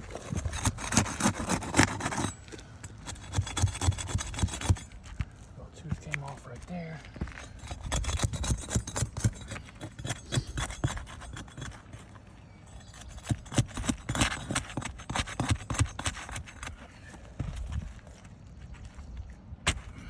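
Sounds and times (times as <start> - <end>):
shingles scraped with hand tool: 0.0 - 5.2, 7.2 - 18.8.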